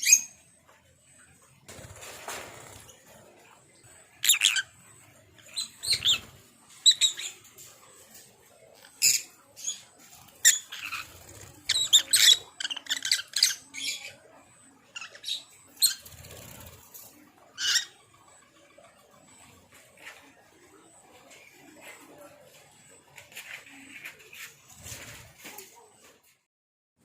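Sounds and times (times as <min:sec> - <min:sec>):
birds chirping and squawking: 0:00.0 - 0:25.3.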